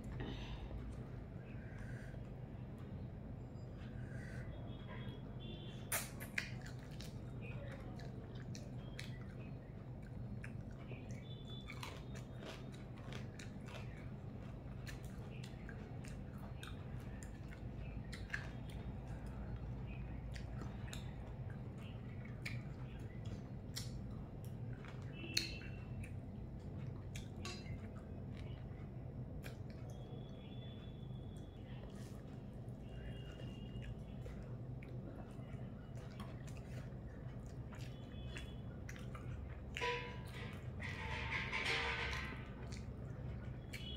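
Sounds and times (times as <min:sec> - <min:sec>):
person chewing and biting food: 0:05.9 - 0:30.8, 0:31.4 - 0:43.9.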